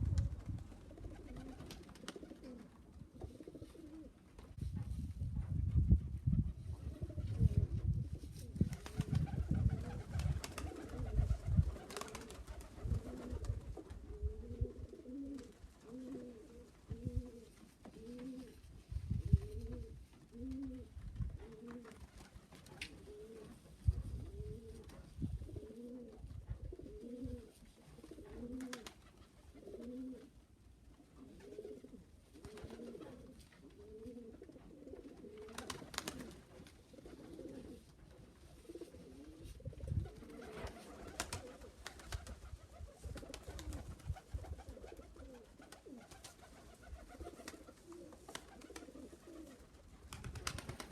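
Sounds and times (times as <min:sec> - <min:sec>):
pigeons cooing: 0:00.0 - 0:04.3, 0:08.8 - 0:18.6, 0:19.4 - 0:22.0, 0:23.0 - 0:23.6, 0:24.2 - 0:30.3, 0:31.2 - 0:37.9, 0:38.5 - 0:50.9.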